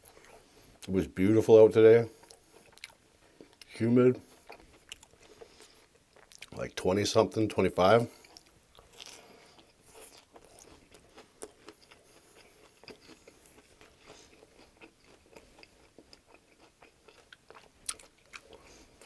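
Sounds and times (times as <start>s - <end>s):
chewing with mouth clicks: 2.1s - 6.6s, 8.1s - 19.0s.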